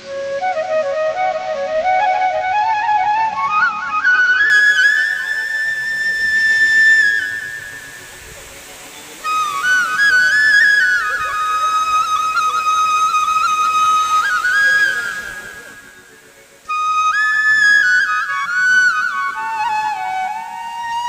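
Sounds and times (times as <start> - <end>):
flute melody: 0.0 - 21.0.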